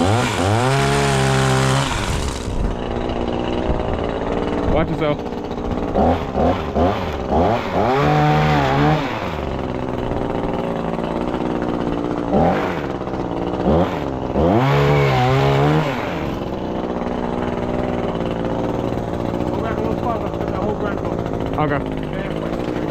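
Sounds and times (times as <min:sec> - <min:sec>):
small two-stroke engine revving: 0:00.0 - 0:22.9.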